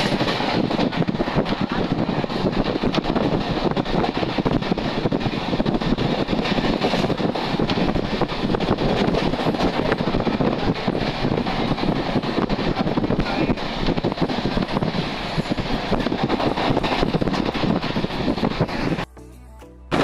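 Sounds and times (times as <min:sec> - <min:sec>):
wind buffeting microphone: 0:00.0 - 0:19.0
train running noise: 0:00.0 - 0:19.1.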